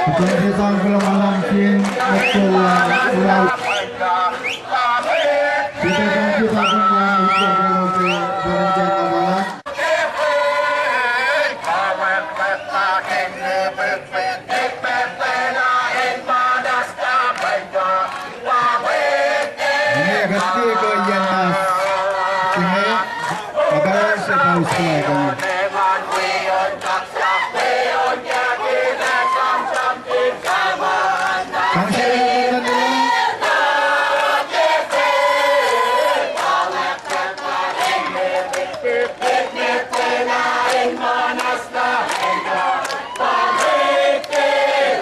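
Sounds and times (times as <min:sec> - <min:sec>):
crowd chanting in unison: 0:00.0 - 0:45.0.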